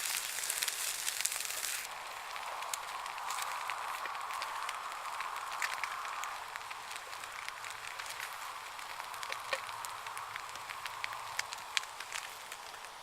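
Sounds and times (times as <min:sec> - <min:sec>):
campfire crackling: 0:00.0 - 0:13.0
eggs frying in a pan: 0:00.0 - 0:13.0
steady hiss: 0:00.0 - 0:13.0.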